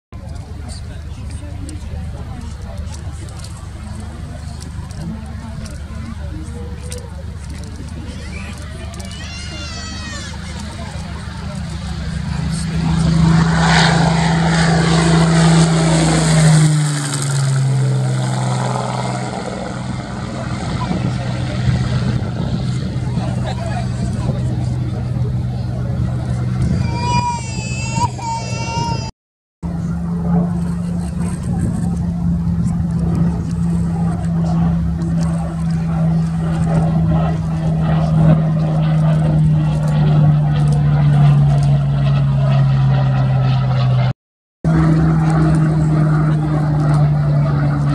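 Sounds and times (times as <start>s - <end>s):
propeller plane engine passing: 0.2s - 44.1s, 44.7s - 47.9s.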